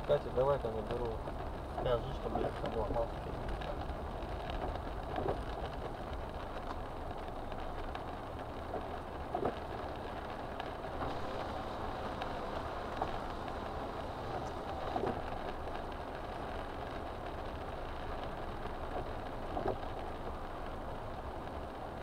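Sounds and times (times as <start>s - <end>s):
car engine and road noise: 0.0s - 22.0s
raindrops ticking on windshield: 0.0s - 22.0s.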